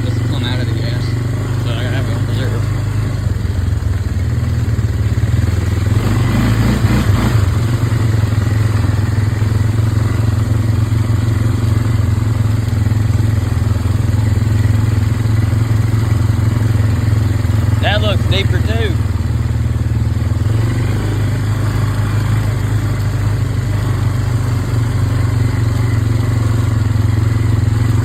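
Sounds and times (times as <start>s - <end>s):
off-road vehicle engine running: 0.0s - 28.0s.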